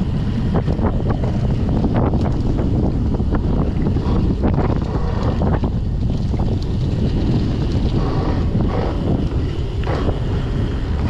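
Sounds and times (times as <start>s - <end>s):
bike rattling over bumps: 0.0s - 11.0s
bike tyres rolling on dirt: 0.0s - 11.0s
wind buffeting microphone: 0.0s - 11.0s.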